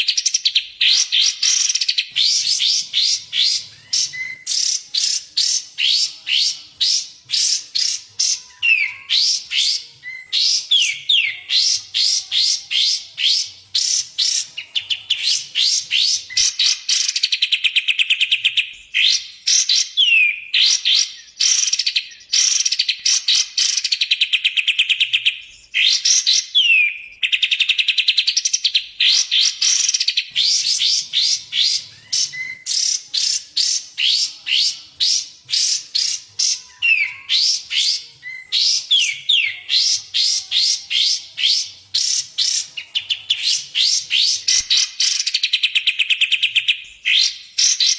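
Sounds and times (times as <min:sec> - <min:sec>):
songbirds chirping and trilling: 0:00.0 - 0:47.9.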